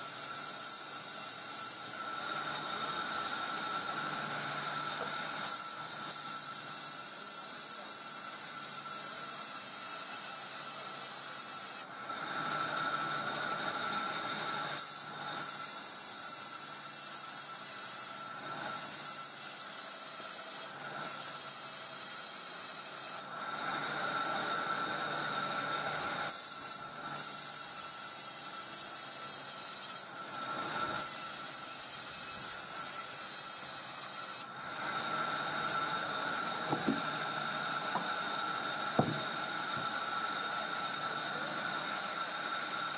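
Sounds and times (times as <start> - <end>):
saw blade rasping through wood: 0.0 - 42.9.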